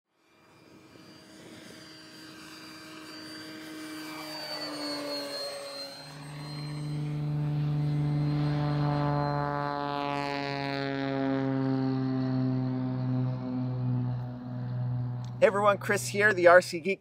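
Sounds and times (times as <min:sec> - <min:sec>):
model airplane propeller whine: 0:00.1 - 0:17.0
low droning music note: 0:02.9 - 0:16.8.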